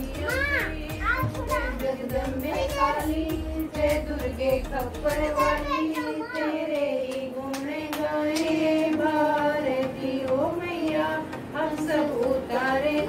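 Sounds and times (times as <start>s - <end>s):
women singing a hymn: 0.0s - 13.0s.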